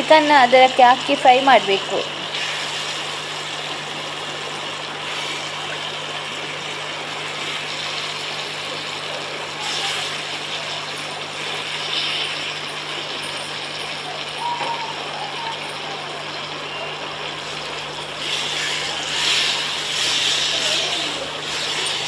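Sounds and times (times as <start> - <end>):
chicken sizzling in hot fat: 0.0 - 22.0.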